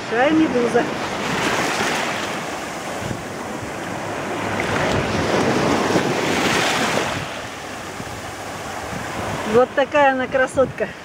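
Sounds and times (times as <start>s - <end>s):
sea waves washing onto sand: 0.0s - 11.0s.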